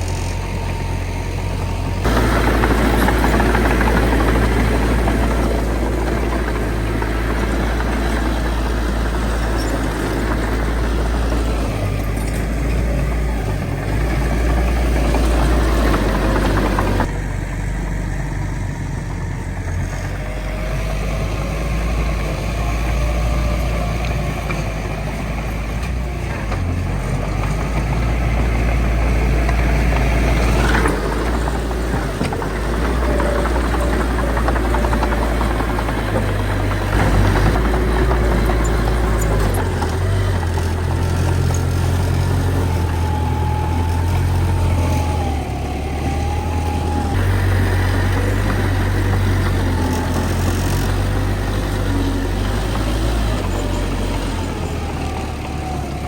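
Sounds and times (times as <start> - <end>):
diesel earthmoving machinery rumbling: 0.0 - 56.0.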